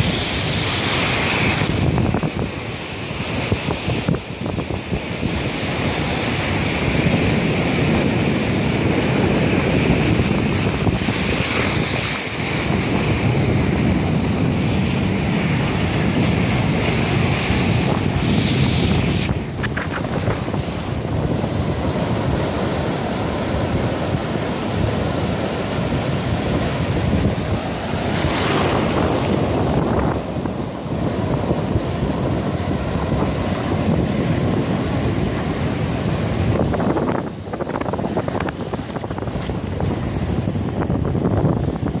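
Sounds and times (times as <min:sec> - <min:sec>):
surf breaking: 0:00.0 - 0:42.0
wind buffeting microphone: 0:00.0 - 0:42.0.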